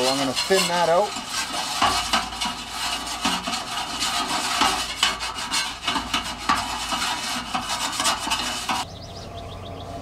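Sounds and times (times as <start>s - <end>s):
metal spatula scraping griddle: 0.0s - 8.9s.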